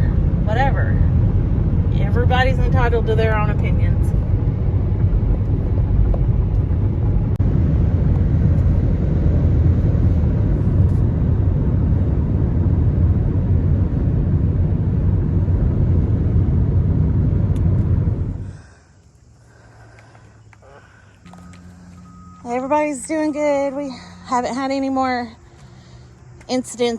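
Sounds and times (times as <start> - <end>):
car cabin road rumble: 0.0 - 26.9.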